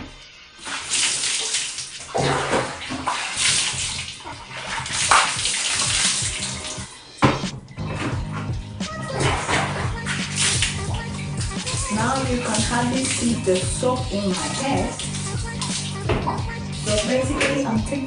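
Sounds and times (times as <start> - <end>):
water splashing into bathtub: 0.0 - 18.0.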